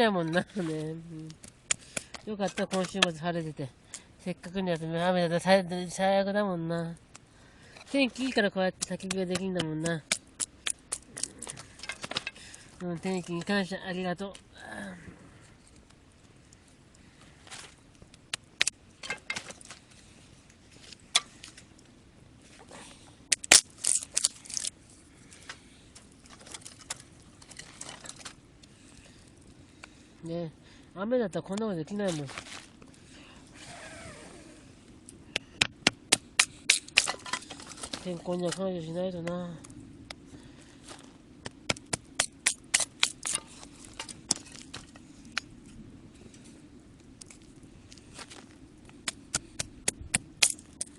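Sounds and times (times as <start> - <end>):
campfire crackling: 0.0 - 50.9
low steady hiss: 0.0 - 50.9.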